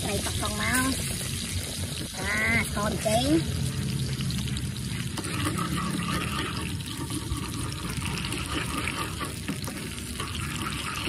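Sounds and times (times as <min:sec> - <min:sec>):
chilli and garlic sizzling in oil: 0:00.0 - 0:11.0.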